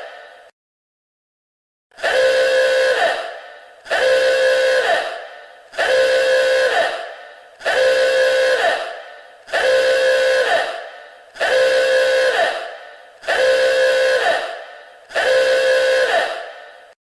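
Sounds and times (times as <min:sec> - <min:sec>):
alarm horn blasts: 0:00.0 - 0:00.5, 0:02.0 - 0:17.0.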